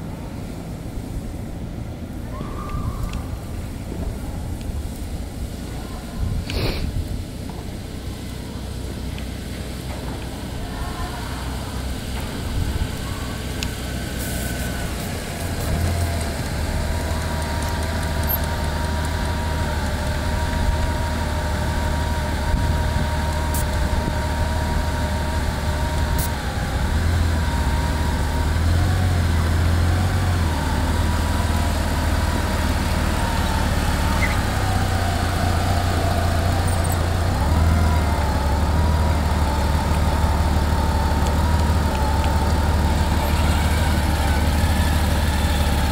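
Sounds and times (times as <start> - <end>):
motorcycle engine at low revs: 3.4 - 45.9.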